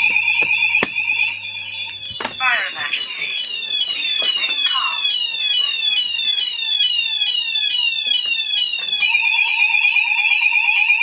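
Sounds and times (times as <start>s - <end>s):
falling sweep alarm tone: 0.0s - 11.0s.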